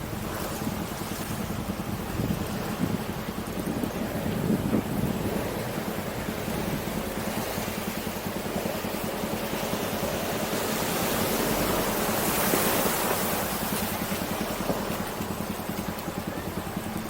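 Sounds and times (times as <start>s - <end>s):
rushing water: 0.0s - 17.0s
vehicle engine running: 0.0s - 17.0s.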